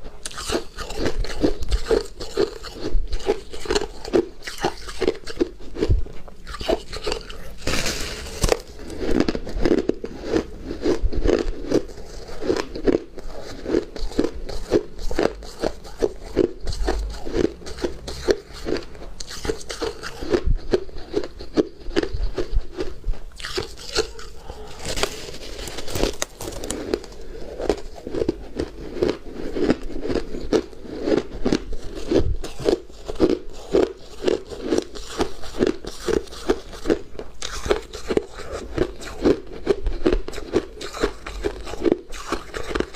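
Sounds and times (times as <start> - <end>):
person chewing crunchy ice: 0.0 - 42.9.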